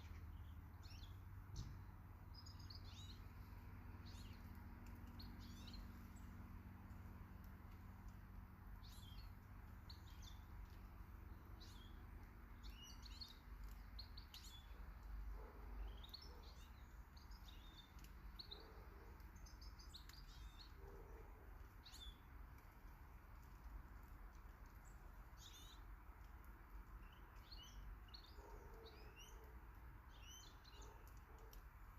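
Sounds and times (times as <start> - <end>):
low background rumble: 0.0 - 27.8
small birds chirping: 0.0 - 31.9.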